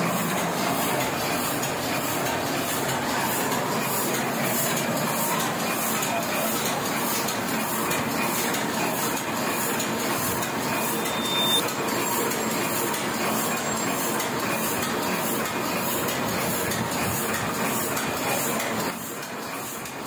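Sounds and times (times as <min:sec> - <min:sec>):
printing press clattering: 0:00.0 - 0:20.0.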